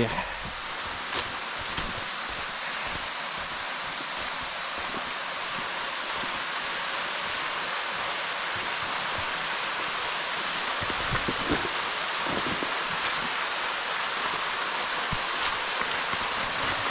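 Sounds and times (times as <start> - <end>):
small waterfall splashing: 0.0 - 16.9.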